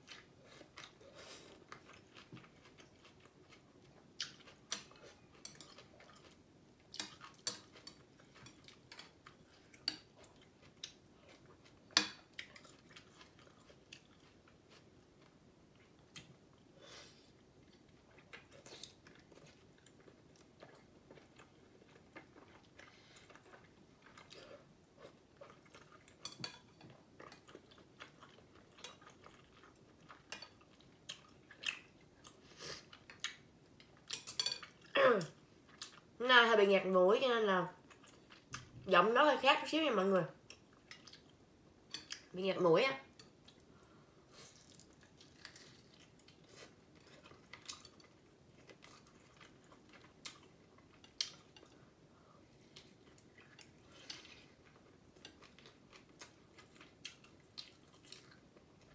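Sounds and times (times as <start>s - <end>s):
person chewing and slurping noodles: 0.0s - 34.9s, 43.4s - 58.9s.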